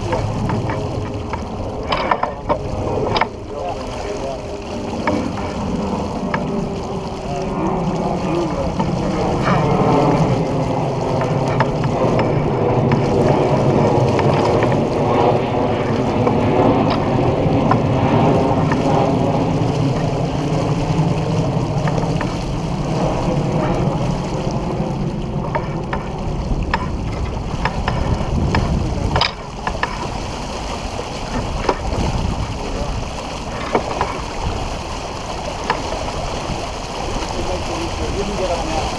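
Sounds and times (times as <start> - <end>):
water rushing along hull: 0.0 - 38.9
wind buffeting microphone: 0.0 - 38.9.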